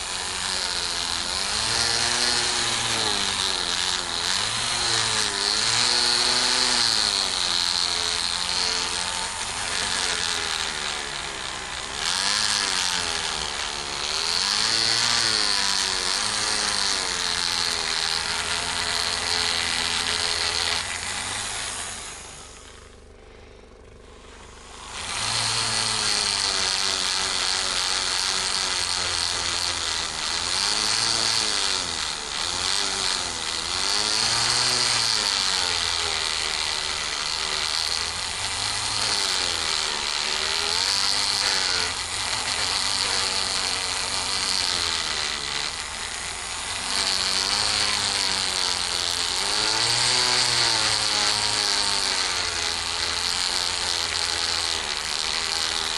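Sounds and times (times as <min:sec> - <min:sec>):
rotary tool whining: 0:00.0 - 0:55.9.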